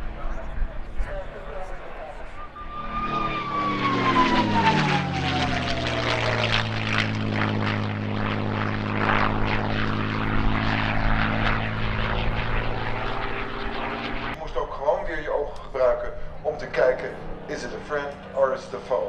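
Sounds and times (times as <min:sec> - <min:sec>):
propeller aircraft flying past: 0:00.0 - 0:19.0.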